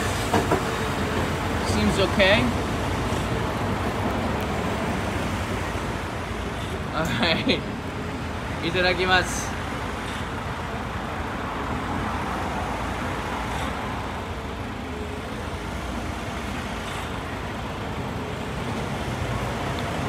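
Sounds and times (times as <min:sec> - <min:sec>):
bus engine running: 0:00.0 - 0:20.0
road traffic: 0:00.0 - 0:20.0.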